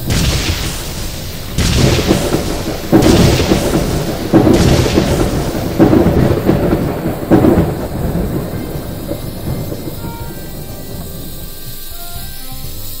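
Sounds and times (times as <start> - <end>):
loud rumbling booms: 0.0 - 12.9.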